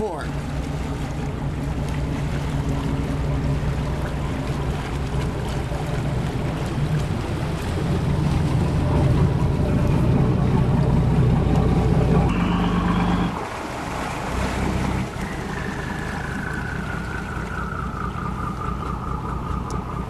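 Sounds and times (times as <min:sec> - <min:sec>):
boat engines humming: 0:00.0 - 0:20.0.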